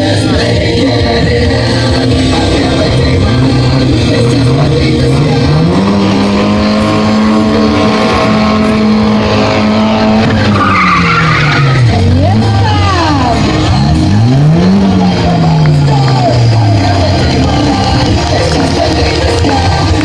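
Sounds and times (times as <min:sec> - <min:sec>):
car engine revving: 0:00.0 - 0:20.0
tyres skidding and squealing: 0:00.0 - 0:20.0.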